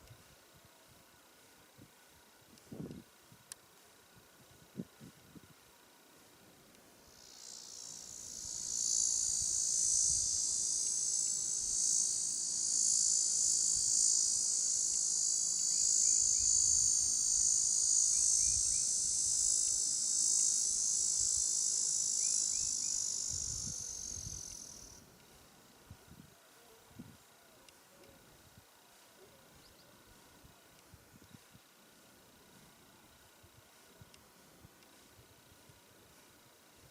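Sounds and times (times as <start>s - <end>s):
insect buzzing: 0.0s - 36.9s.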